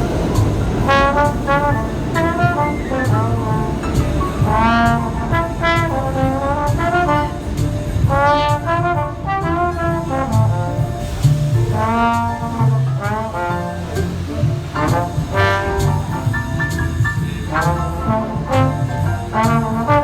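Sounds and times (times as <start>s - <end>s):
jazz tune on brass instrument: 0.0s - 20.0s.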